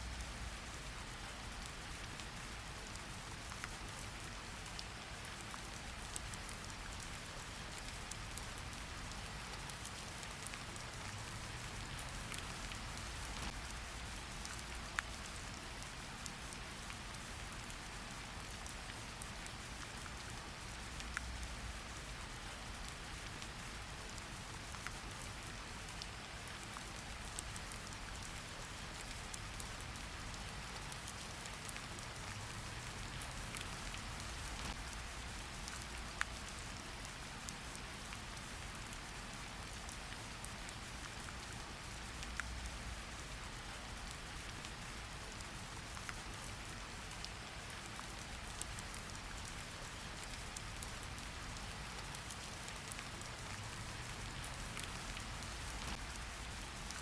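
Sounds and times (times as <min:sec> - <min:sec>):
steady rain falling: 0:00.0 - 0:57.0
rain drop ticks: 0:00.1 - 0:57.0.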